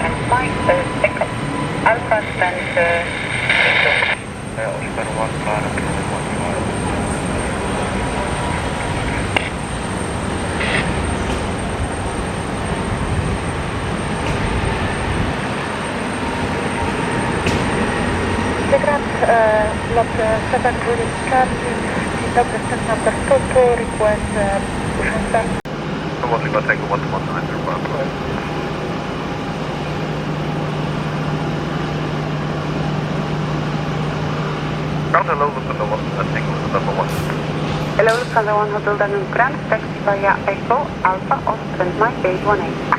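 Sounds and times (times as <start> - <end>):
high whine: 0.0 - 42.9
jet engine rumbling rush: 0.0 - 42.9.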